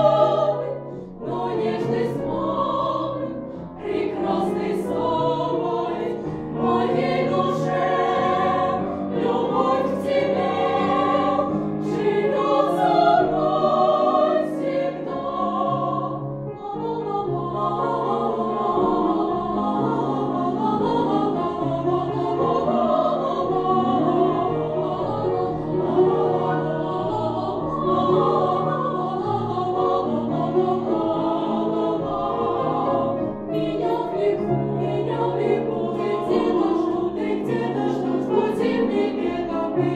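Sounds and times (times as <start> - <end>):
girls singing together: 0.0 - 39.9
piano accompaniment: 0.0 - 39.9.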